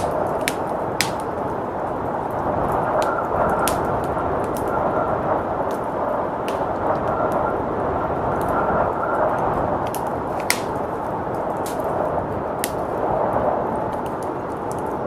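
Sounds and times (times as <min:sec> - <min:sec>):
blizzard wind rushing: 0:00.0 - 0:15.0
wood fire crackling and popping: 0:00.0 - 0:15.0.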